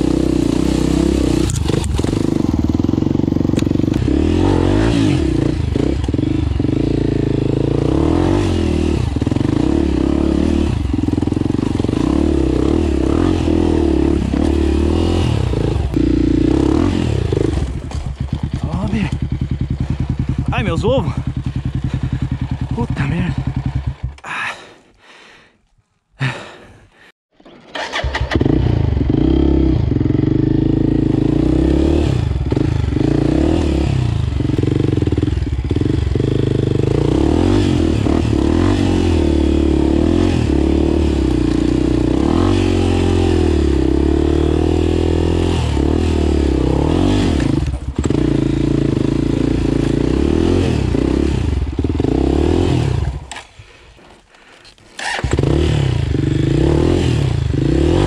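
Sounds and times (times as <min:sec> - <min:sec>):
dirt bike engine revving: 0:00.0 - 0:24.2, 0:27.6 - 0:53.4, 0:54.9 - 0:58.0.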